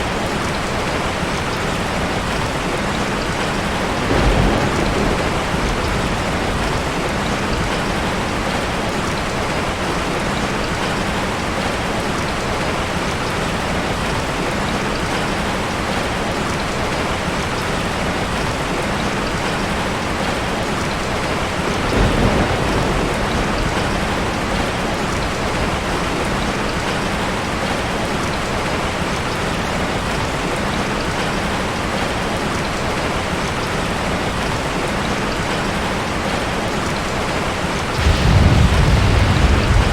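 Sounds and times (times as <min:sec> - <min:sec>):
rain falling on forest: 0:00.0 - 0:39.9.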